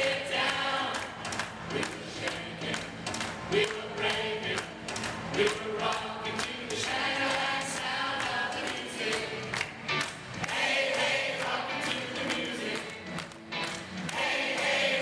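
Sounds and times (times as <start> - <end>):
choir singing pop song: 0.0 - 2.9, 3.5 - 9.6, 10.4 - 13.1, 14.1 - 15.0.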